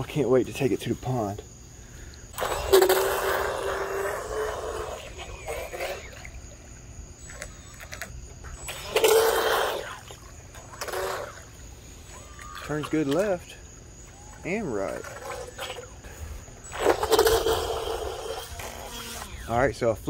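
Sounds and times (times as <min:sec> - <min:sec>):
rc boat motor whining: 0:02.3 - 0:06.5, 0:07.2 - 0:19.8.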